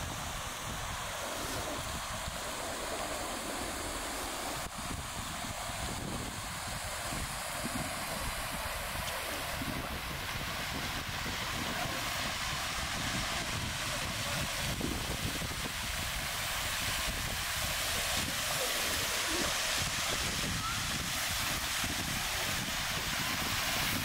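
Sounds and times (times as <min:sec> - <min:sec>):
outdoor background hiss: 0:00.0 - 0:24.0
wind buffeting microphone: 0:00.0 - 0:24.0.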